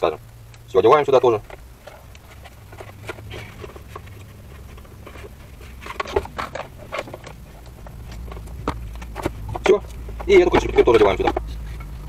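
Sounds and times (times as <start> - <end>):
steady low hum: 0.0 - 12.0
light clicks taps and rustles: 1.3 - 12.0.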